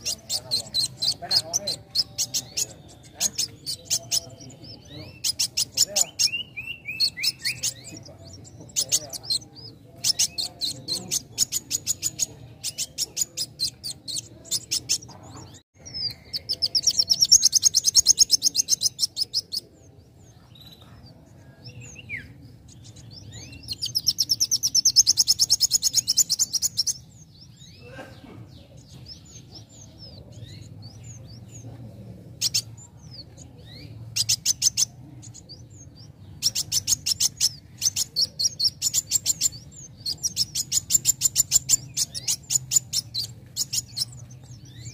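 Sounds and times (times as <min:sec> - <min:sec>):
sunbird singing: 0:00.0 - 0:44.9.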